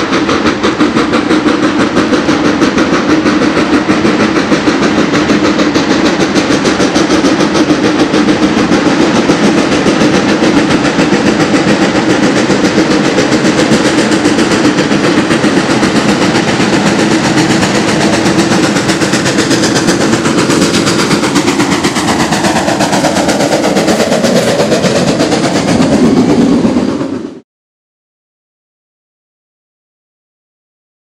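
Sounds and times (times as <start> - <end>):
steam locomotive exhaust beating: 0.0 - 27.4.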